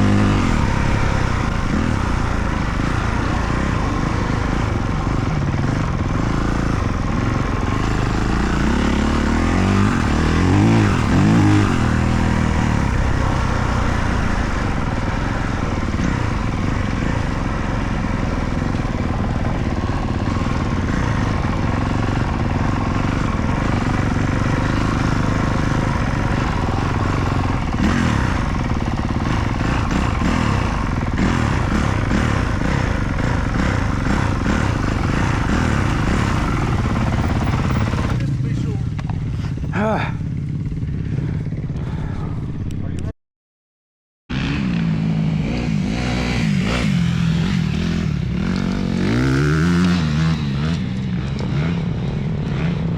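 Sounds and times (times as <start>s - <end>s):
dirt bike engines revving: 0.0s - 43.1s, 44.3s - 52.9s.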